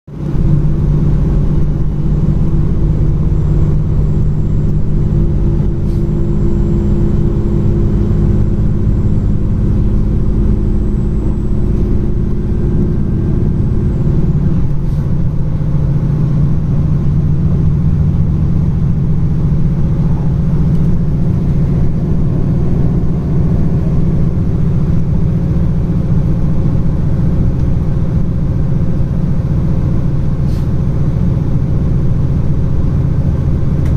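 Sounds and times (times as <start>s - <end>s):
train rumbling: 0.1s - 33.9s.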